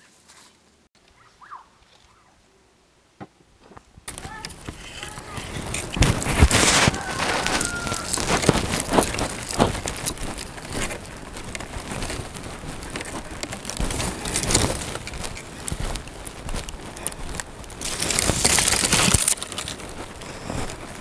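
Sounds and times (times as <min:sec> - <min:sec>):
footsteps on grass: 0:03.6 - 0:21.0
dry twigs crackling: 0:03.7 - 0:21.0.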